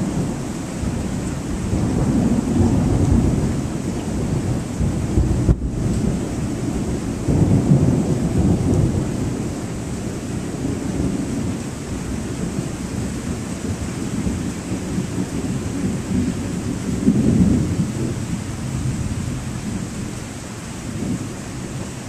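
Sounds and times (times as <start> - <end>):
rolling thunder: 0.0 - 20.2, 20.8 - 22.0
steady rain: 0.0 - 22.0.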